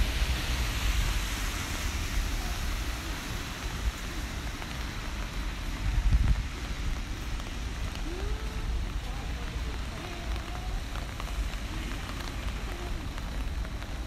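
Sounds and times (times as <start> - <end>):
low traffic rumble: 0.0 - 14.0
rain hiss on street: 0.0 - 14.0.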